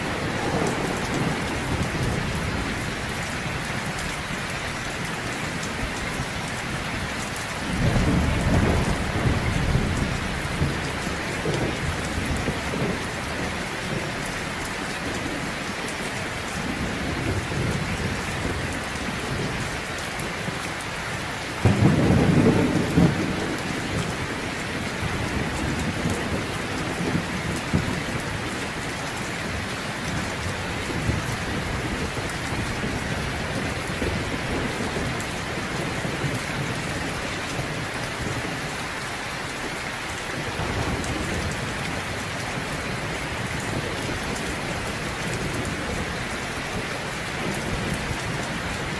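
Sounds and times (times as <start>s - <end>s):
thunder rumbling: 0.0s - 20.7s, 21.4s - 38.8s, 39.7s - 48.9s
heavy rain falling: 0.0s - 48.9s.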